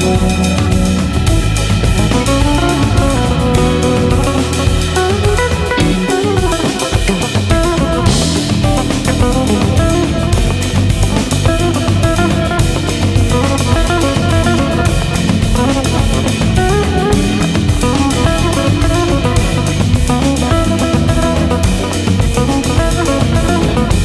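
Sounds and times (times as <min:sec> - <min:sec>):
rock instrumental music: 0:00.0 - 0:24.0.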